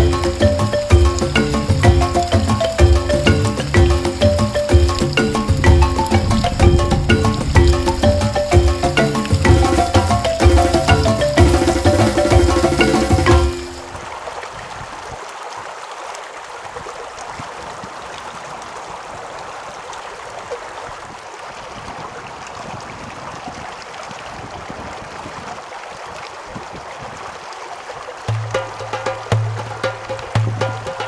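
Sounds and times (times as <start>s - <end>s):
water rushing in canal: 0.0s - 31.0s.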